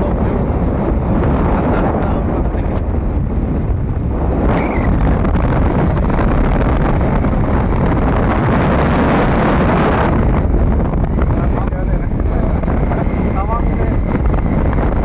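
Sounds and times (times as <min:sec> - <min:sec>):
motorcycle low rumble: 0:00.0 - 0:15.0
wind buffeting microphone: 0:00.0 - 0:15.0.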